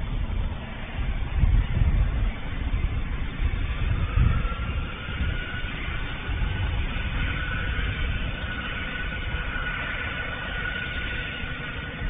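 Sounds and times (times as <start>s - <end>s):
jet engine whine: 0.0s - 12.0s
low engine rumble: 0.0s - 12.0s.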